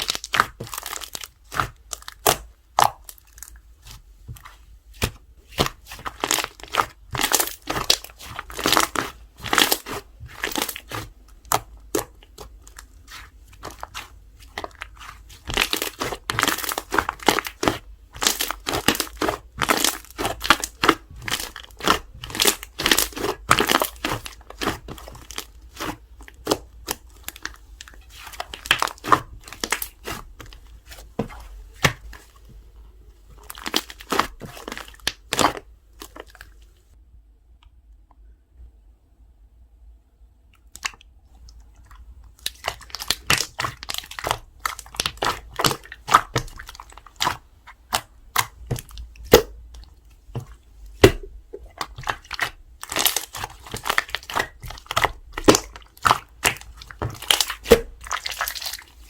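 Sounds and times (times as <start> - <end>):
slime crackling and popping: 0.0 - 32.3, 33.4 - 36.8, 40.8 - 59.0.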